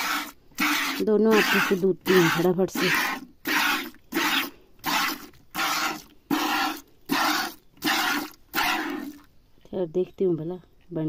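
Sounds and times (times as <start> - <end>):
milk squirting into bucket: 0.0 - 9.3.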